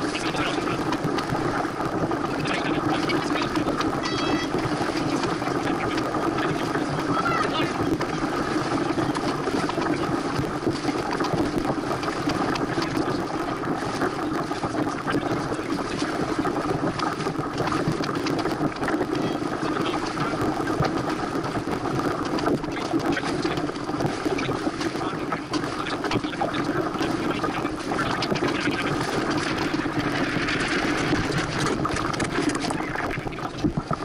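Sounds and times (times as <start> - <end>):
water rushing past a boat: 0.0 - 34.0
wind rushing: 0.0 - 34.0.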